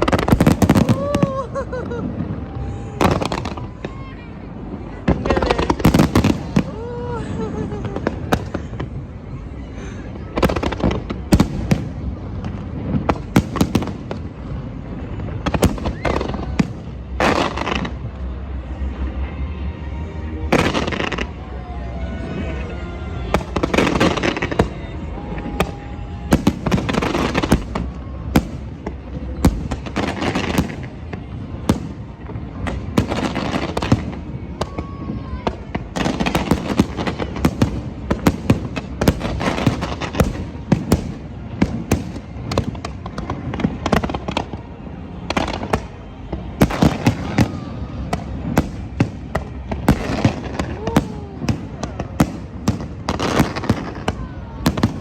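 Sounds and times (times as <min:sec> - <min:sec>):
fireworks bangs: 0:00.0 - 0:09.4, 0:10.2 - 0:18.4, 0:20.5 - 0:21.5, 0:22.2 - 0:55.0
fireworks crackling: 0:00.0 - 0:19.4, 0:20.0 - 0:55.0.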